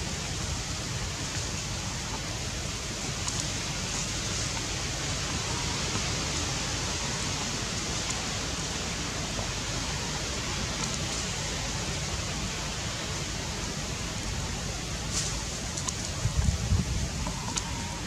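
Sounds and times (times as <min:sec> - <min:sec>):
outdoor ambient hiss: 0:00.0 - 0:18.0.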